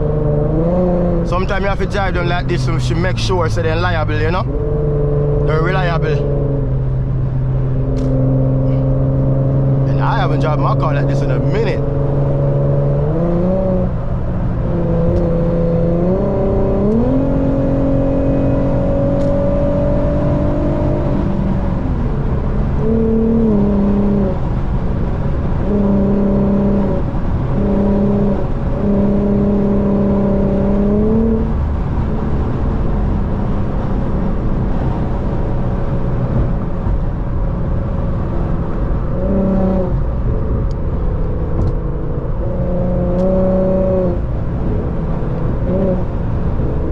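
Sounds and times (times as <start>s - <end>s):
car engine droning: 0.0s - 46.9s.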